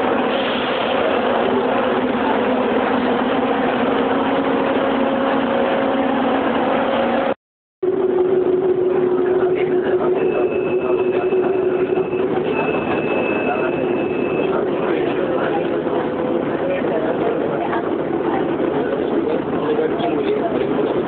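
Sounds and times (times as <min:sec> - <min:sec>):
train running hum: 0:00.0 - 0:21.0.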